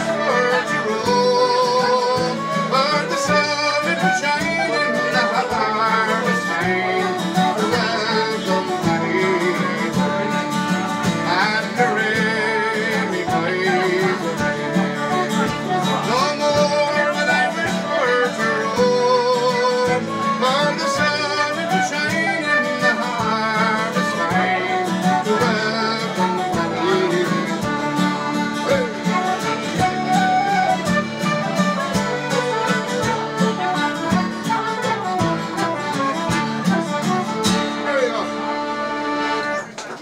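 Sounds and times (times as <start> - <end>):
acoustic guitar rhythm: 0.0 - 40.0
button accordion: 0.0 - 40.0
wooden flute: 0.0 - 40.0.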